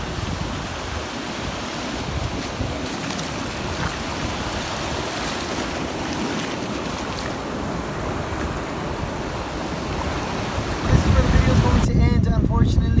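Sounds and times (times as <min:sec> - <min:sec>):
ocean surf: 0:00.0 - 0:11.9
wind buffeting microphone: 0:00.0 - 0:13.0.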